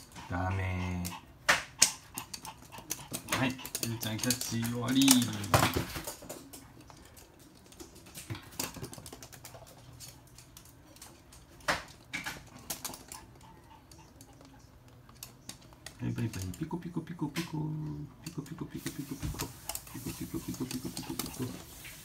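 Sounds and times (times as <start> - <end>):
dog claws clicking on hard floor: 0.0 - 17.6, 18.2 - 22.0.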